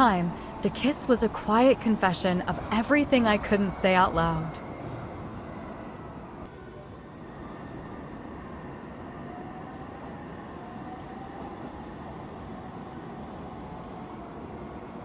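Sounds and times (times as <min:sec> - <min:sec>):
faint rising whine: 0:00.0 - 0:15.0.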